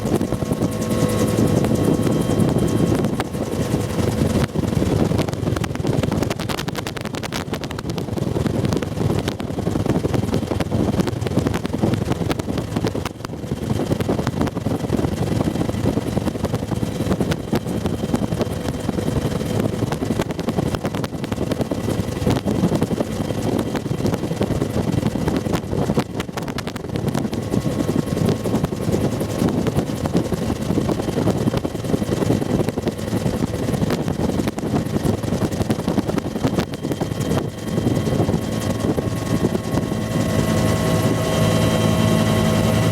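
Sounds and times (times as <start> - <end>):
helicopter rotor and engine: 0.0 - 42.9
wind buffeting microphone: 0.0 - 42.9.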